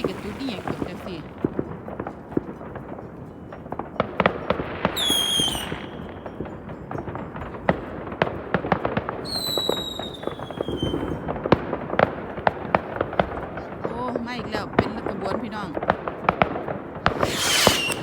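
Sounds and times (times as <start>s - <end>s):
fireworks bangs and crackles: 0.0s - 18.0s
whistling fireworks: 0.0s - 18.0s.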